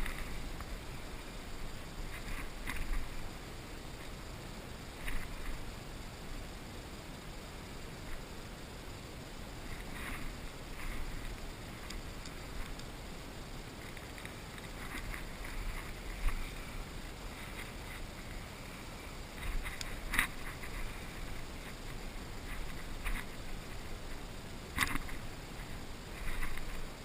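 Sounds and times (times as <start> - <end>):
light rustling and crackling: 0.0 - 6.1, 9.6 - 27.0.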